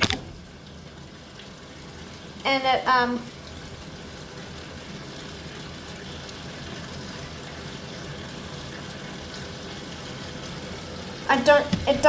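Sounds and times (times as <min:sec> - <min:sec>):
water rushing into washing machine: 0:00.0 - 0:12.0.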